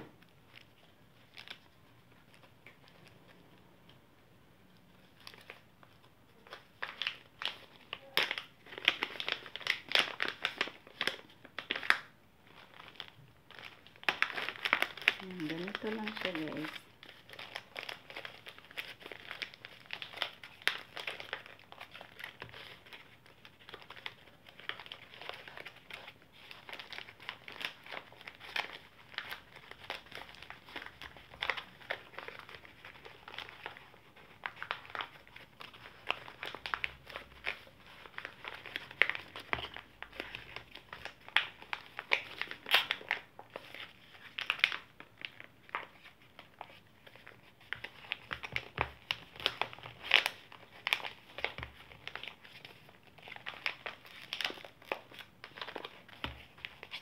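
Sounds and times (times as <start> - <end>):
packaging pouches crinkling: 5.0 - 57.0.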